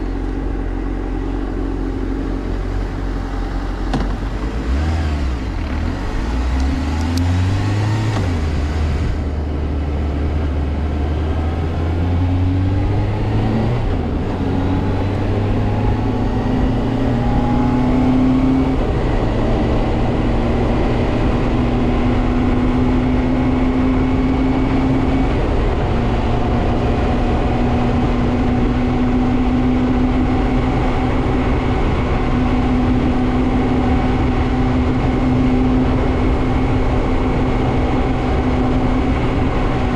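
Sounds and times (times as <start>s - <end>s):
motorcycle engine shifting gears: 0.0s - 39.9s
road and wind rush: 0.0s - 39.9s.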